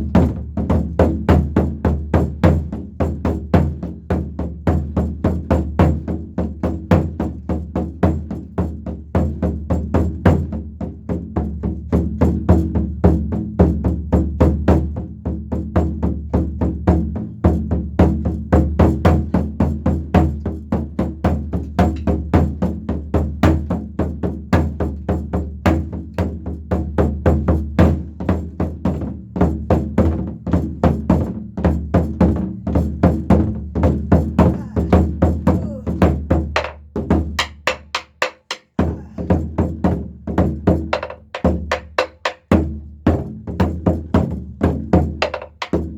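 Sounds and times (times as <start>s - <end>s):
drum played in fast galloping strokes: 0.0s - 45.9s.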